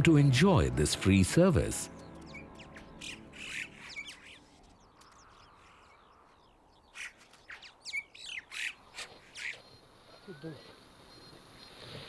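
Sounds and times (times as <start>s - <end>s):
birds giving harsh calls: 1.9s - 11.8s.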